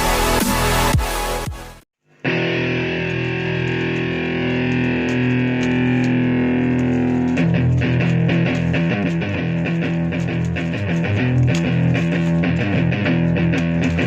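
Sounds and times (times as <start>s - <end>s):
distorted electric guitar: 2.0s - 14.0s.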